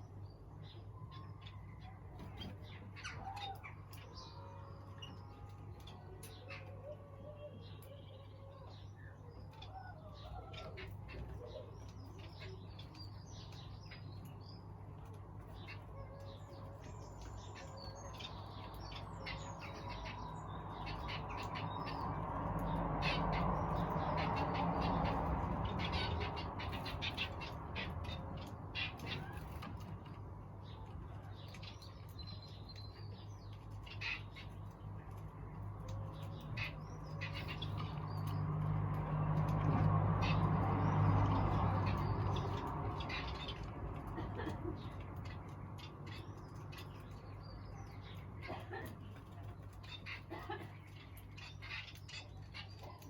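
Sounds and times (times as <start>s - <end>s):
birds chirping and twittering: 0.0s - 53.0s.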